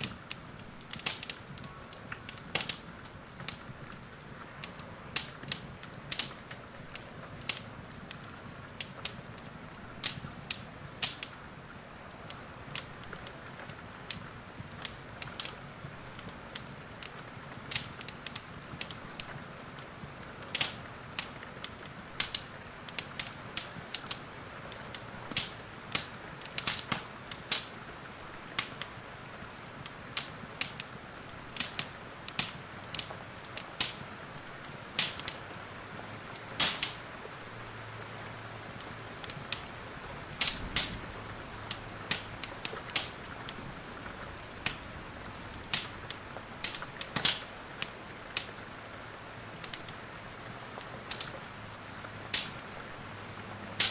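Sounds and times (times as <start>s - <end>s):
rain hissing: 0.0s - 53.9s
wood fire crackling and popping: 0.0s - 53.9s.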